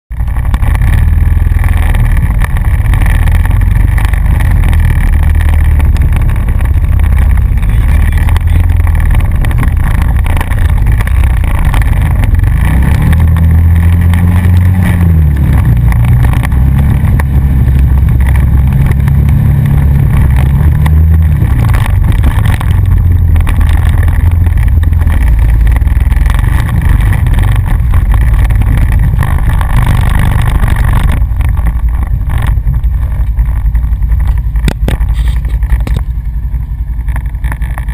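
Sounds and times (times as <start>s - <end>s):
atv engine rumbling: 0.1s - 37.9s.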